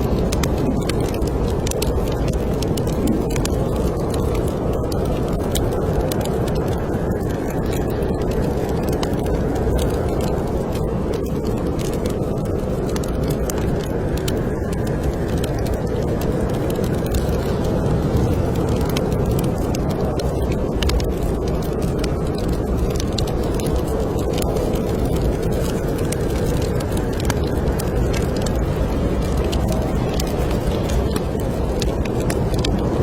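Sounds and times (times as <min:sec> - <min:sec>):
roaring snowstorm wind: 0:00.0 - 0:33.0
wood fire crackling: 0:00.0 - 0:33.0.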